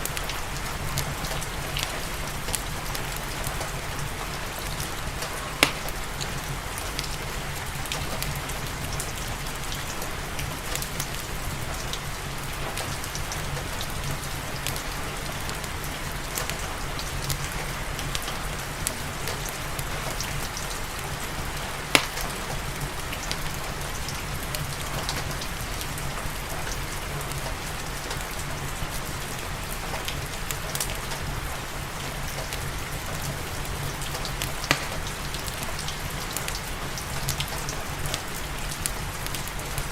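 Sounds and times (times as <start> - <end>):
fireplace crackling and popping: 0.0 - 12.0, 12.6 - 29.1, 29.7 - 39.9
steady rain falling: 0.0 - 39.9.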